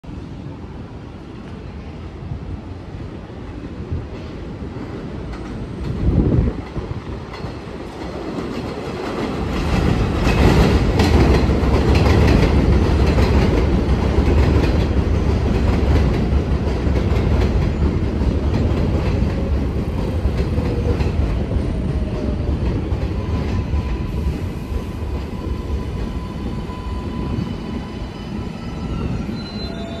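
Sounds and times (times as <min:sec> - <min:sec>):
train wheels rumbling on rails: 0:01.3 - 0:30.0.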